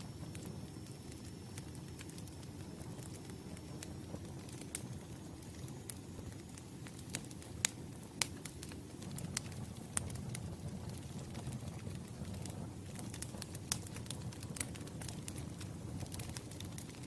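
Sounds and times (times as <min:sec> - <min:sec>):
campfire flames rumbling: 0:00.0 - 0:17.0
fire popping and crackling: 0:00.0 - 0:17.0.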